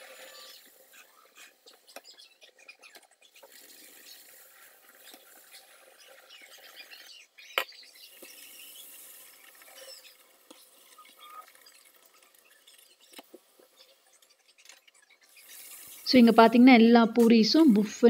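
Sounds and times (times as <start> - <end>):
hot oil sizzling: 0.0 - 1.9, 3.2 - 18.0.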